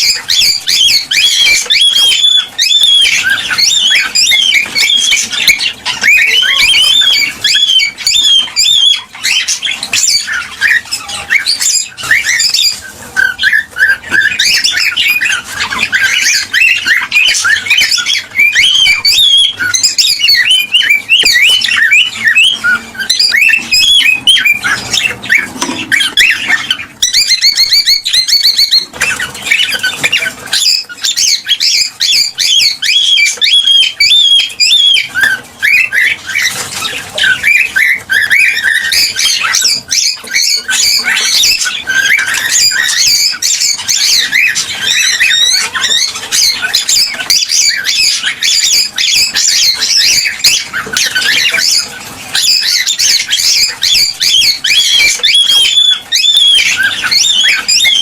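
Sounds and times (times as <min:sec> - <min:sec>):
cockatiels chirping and squawking: 0:00.0 - 0:58.0.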